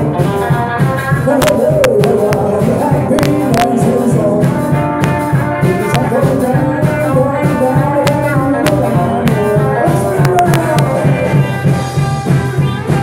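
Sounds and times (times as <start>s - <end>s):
drum and cymbal strikes: 0.0s - 13.0s
live band playing amplified music: 0.0s - 13.0s.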